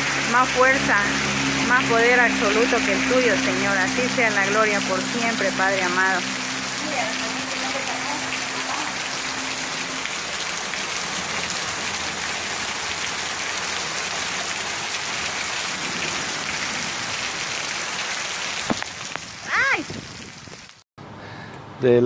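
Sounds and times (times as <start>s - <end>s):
heavy rain on street and rooftops: 0.0s - 20.8s.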